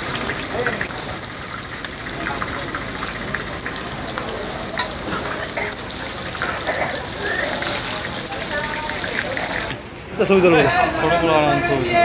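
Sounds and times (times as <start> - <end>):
food sizzling on a griddle: 0.0 - 9.7.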